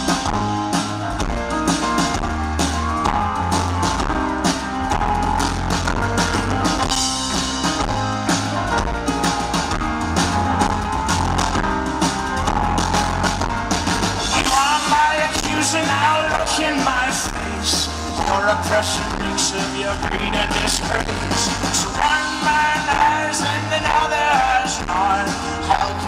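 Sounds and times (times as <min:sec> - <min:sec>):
drum kit: 0:00.0 - 0:26.0.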